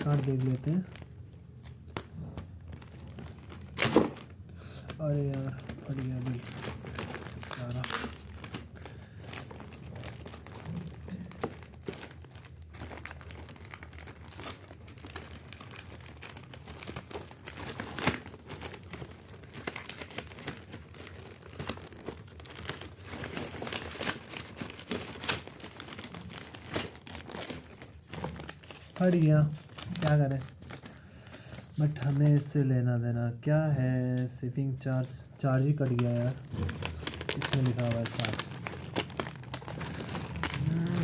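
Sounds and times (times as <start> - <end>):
packaging crinkling and rustling: 0.0 - 32.9, 34.1 - 41.0.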